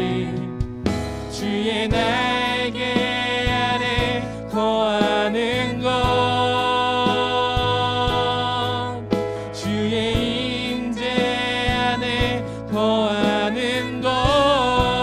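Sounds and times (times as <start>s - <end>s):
person singing: 0.0s - 0.6s, 1.3s - 15.0s
drum kit beat: 0.0s - 15.0s
worship band playing: 0.0s - 15.0s.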